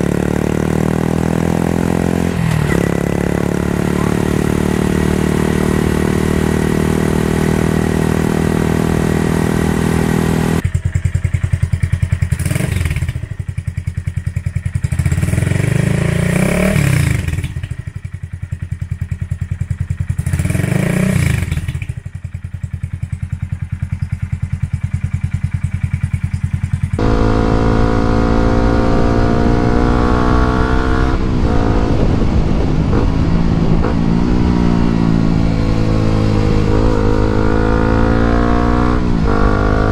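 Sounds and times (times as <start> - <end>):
motorcycle exhaust running steadily: 0.0 - 39.9
motorcycle idling and revving: 0.0 - 39.9.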